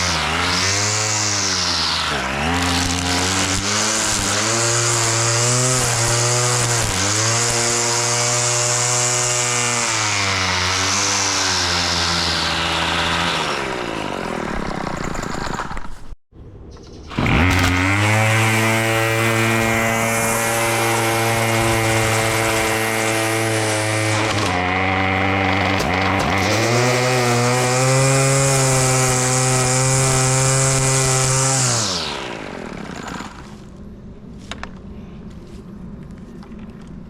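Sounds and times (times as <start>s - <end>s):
lawn mower engine running: 0.0s - 16.0s, 17.1s - 33.8s.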